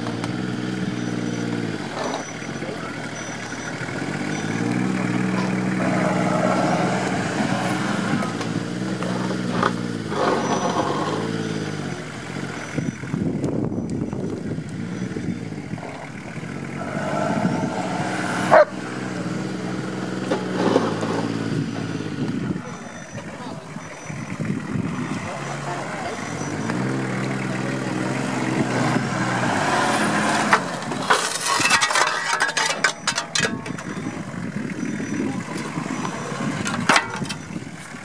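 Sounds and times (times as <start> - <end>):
engine pulling under load: 0.0 - 38.0.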